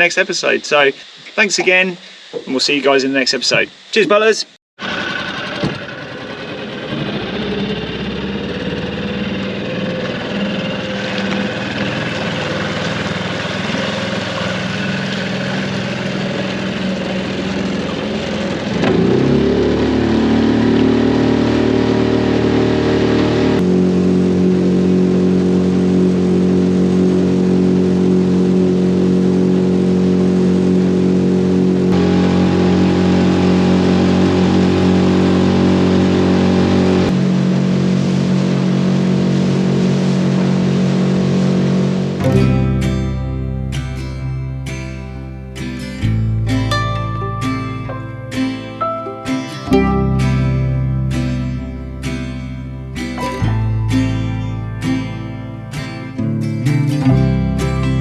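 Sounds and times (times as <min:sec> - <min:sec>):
small outboard motor running: 0:04.8 - 0:49.0, 0:49.7 - 0:56.2.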